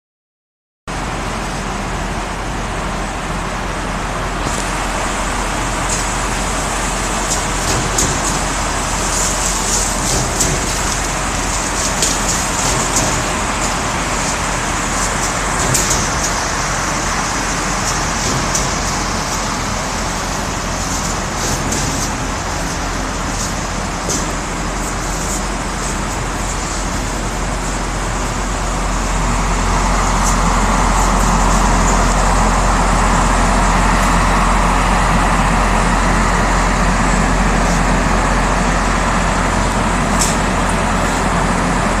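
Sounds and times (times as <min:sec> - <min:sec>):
shrink tunnel humming: 0:00.9 - 0:42.0
packaging machine running with clicks: 0:04.4 - 0:34.4, 0:36.3 - 0:41.7.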